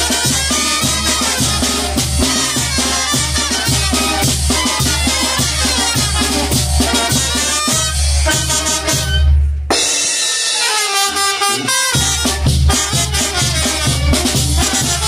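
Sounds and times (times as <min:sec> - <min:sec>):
bass drum and cymbal beat: 0:00.0 - 0:15.0
brass band playing: 0:00.0 - 0:15.0.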